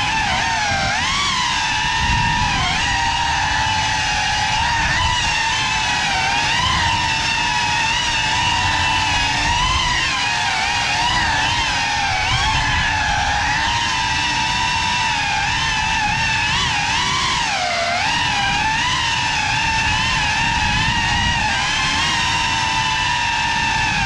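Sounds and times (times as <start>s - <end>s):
drone motors whining: 0.0s - 24.0s
propeller wash rushing: 0.0s - 24.0s.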